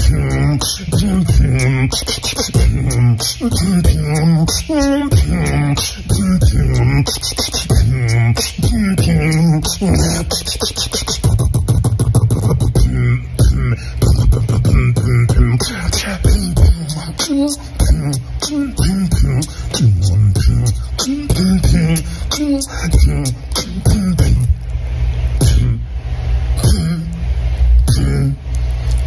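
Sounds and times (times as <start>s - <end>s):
beatboxing: 0.0s - 29.0s
hummed sliding bass tones: 0.0s - 29.0s.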